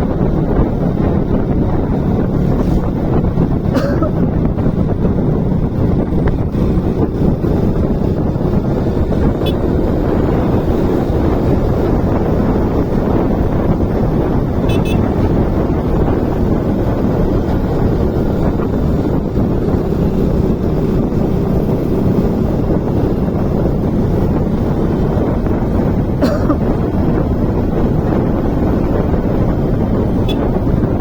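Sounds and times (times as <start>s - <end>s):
motorcycle running with road noise: 0.0s - 31.0s
wind buffeting microphone: 0.0s - 31.0s.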